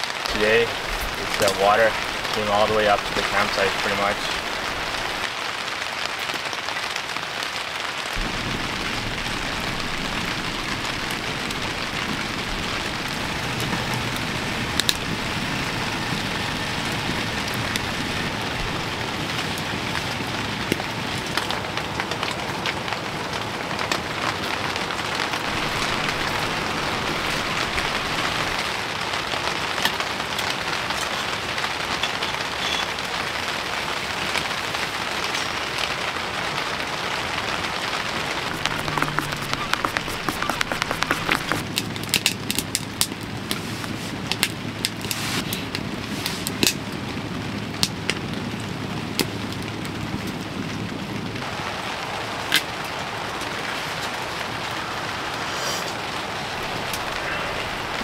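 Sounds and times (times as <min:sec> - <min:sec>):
heavy rain on a tent: 0:00.0 - 0:58.0.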